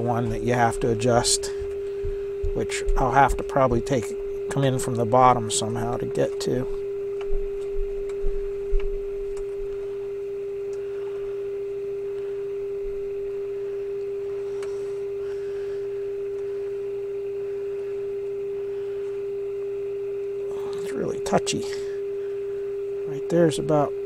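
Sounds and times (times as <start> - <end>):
steady pure test tone: 0.0 - 24.0.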